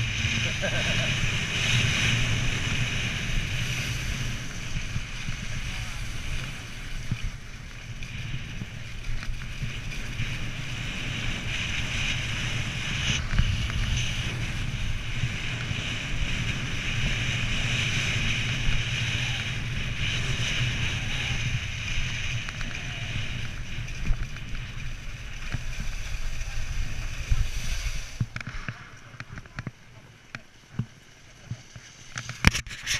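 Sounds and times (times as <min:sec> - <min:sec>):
skis hissing on snow: 0:00.0 - 0:29.2
wind on microphone: 0:00.0 - 0:29.8.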